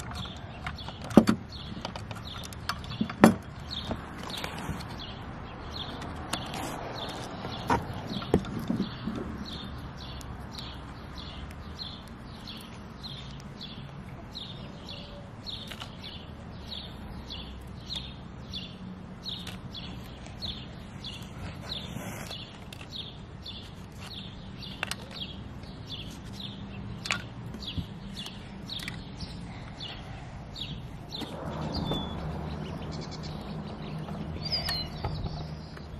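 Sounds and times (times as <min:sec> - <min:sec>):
bird chirping: 0:00.0 - 0:35.9.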